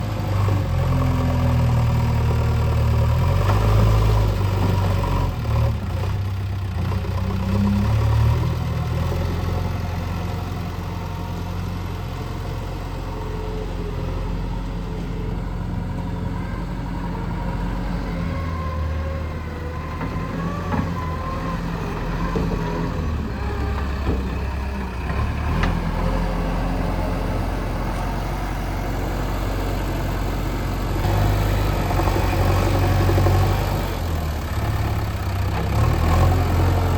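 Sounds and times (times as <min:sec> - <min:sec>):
backhoe diesel engine running: 0:00.0 - 0:36.9.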